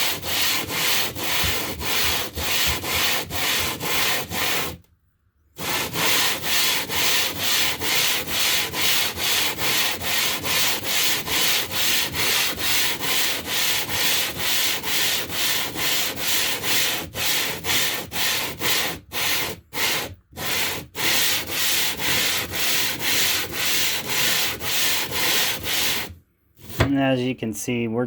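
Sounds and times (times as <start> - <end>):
gritty stone rubbing strokes: 0.0 - 4.8, 5.6 - 27.0.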